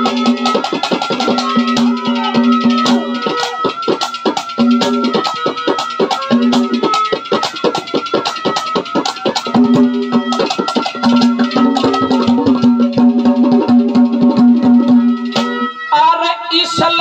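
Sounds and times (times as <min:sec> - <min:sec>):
fast hand drumming: 0:00.0 - 0:15.7
held melody instrument notes: 0:00.0 - 0:17.0.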